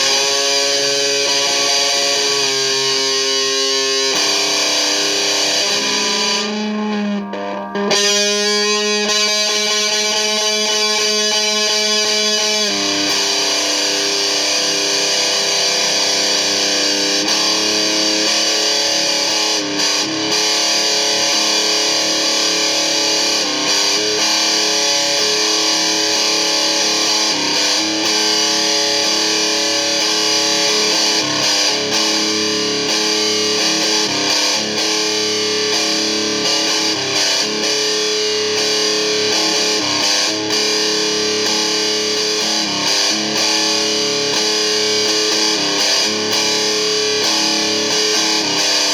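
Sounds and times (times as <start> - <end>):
distorted electric guitar: 0.0 - 48.9.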